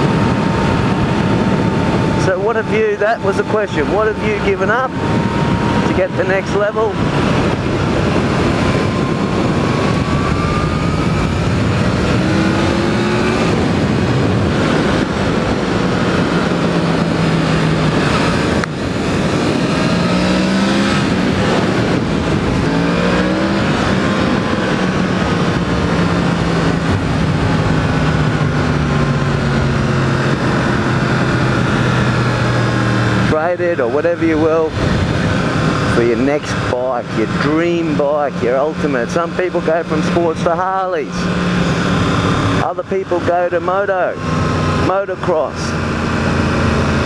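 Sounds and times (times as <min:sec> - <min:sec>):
wind noise: 0:00.0 - 0:47.0.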